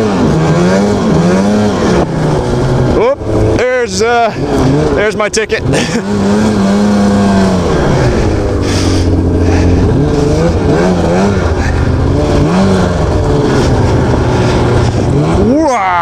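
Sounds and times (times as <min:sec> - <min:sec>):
snowmobile two-stroke engine: 0:00.0 - 0:16.0.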